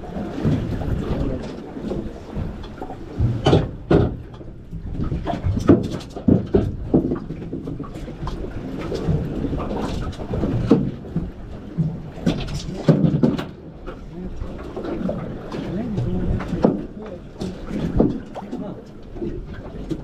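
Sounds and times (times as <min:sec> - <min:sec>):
knocks and thumps on boat: 0:00.0 - 0:20.0.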